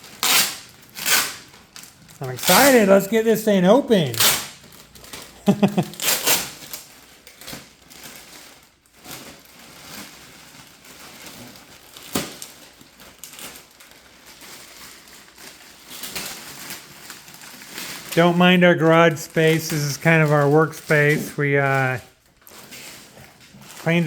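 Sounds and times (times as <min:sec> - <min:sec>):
cardboard crinkling and rustling: 0:00.0 - 0:24.0.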